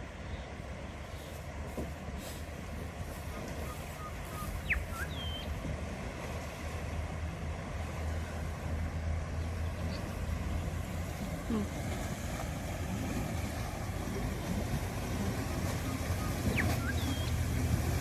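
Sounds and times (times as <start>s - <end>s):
vehicle engine low rumble: 0.0s - 18.0s.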